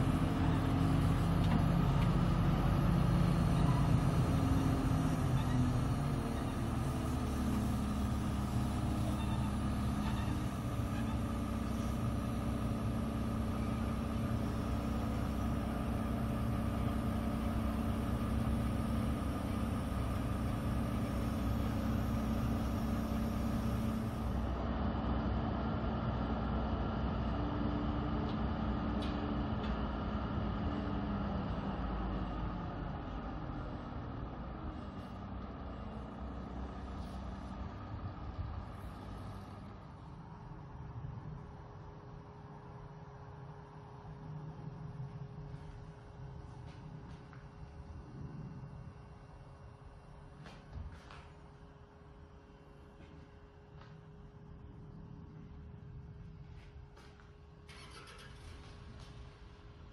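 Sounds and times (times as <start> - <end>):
crane engine humming: 0.0 - 59.9.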